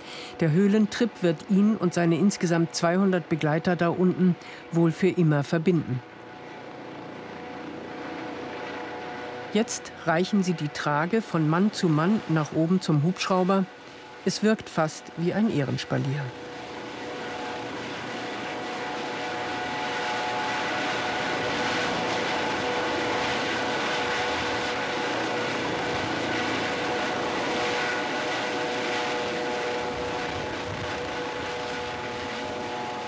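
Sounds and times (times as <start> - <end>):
helicopter rotor and exhaust noise: 0.0 - 33.0
helicopter turbine whine: 0.0 - 33.0.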